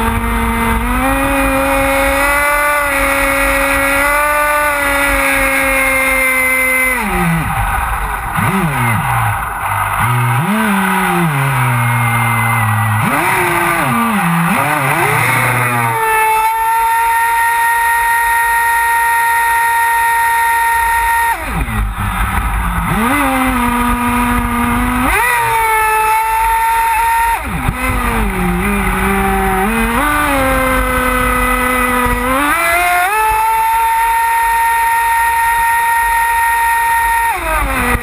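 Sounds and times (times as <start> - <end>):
high-pitched electric motor whine: 0.0 - 38.0.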